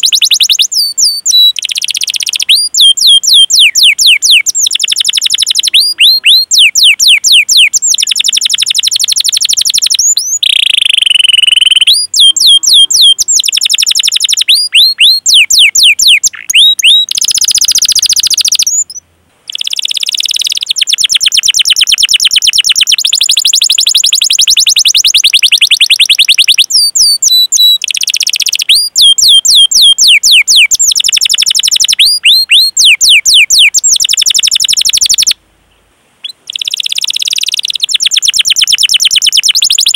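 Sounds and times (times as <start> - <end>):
canary singing: 0.0 - 35.4, 36.2 - 39.9.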